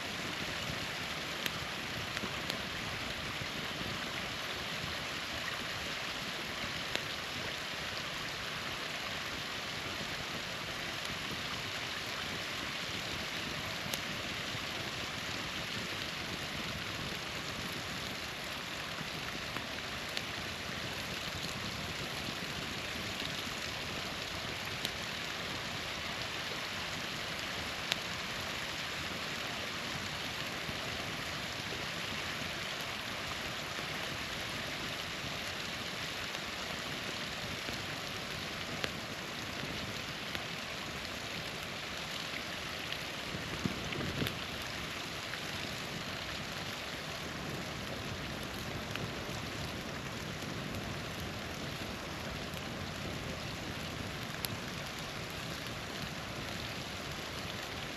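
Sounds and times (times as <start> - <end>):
campfire popping and crackling: 0.0 - 57.9
small waterfall rushing: 0.0 - 57.9.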